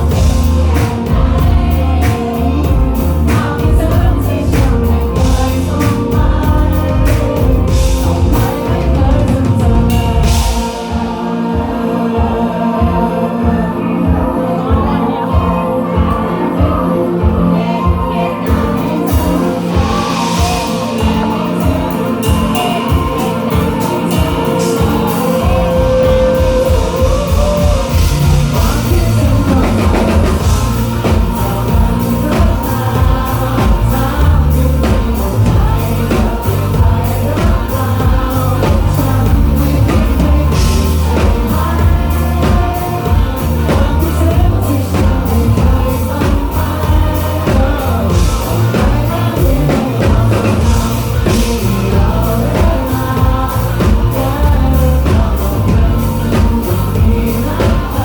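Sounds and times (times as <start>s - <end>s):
person singing: 0.0s - 58.0s
rock band playing: 0.0s - 58.0s.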